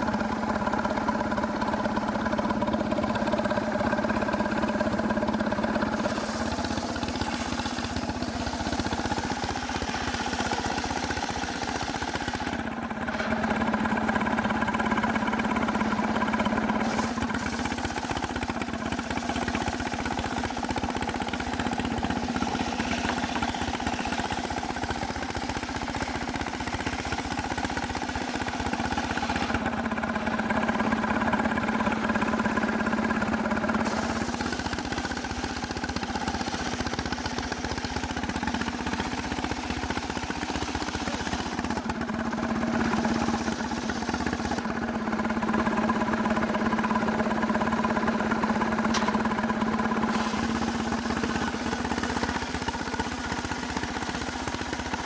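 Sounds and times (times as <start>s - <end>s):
chainsaw running at high speed: 0.0s - 55.0s.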